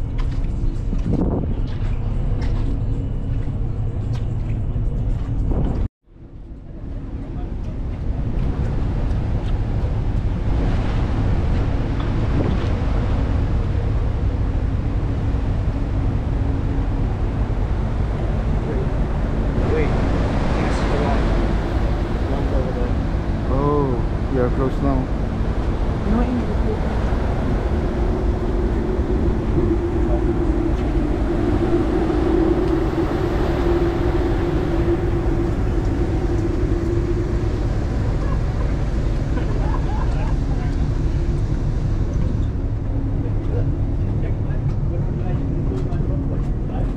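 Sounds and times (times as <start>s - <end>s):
ferry engine rumble: 0.0s - 46.9s
wind on microphone: 0.0s - 46.9s
steady held hum: 6.2s - 46.9s
sea rushing: 6.5s - 46.9s.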